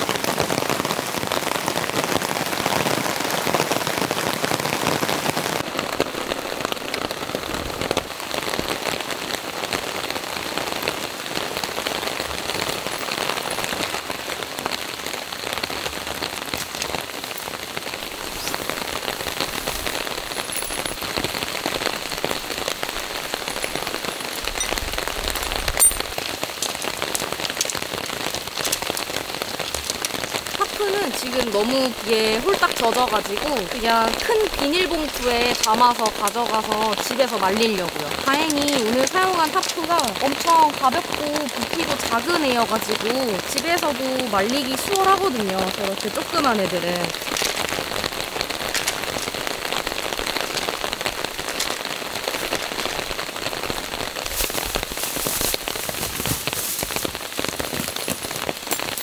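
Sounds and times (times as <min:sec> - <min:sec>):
rain pattering on a tarp: 0:00.0 - 0:59.0.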